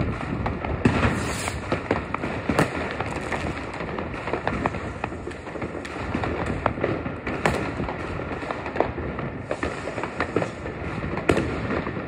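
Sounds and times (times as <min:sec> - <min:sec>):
firecrackers crackling: 0:00.0 - 0:12.0
firework bangs: 0:00.0 - 0:12.0.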